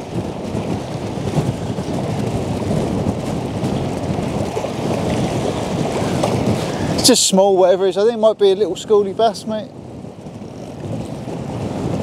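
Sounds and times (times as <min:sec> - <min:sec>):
gusty wind on microphone: 0:00.0 - 0:12.0.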